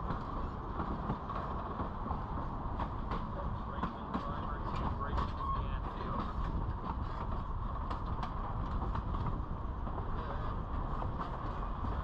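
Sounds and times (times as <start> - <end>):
train rumbling on track: 0.0 - 12.0
wheels clicking on rails: 0.0 - 12.0.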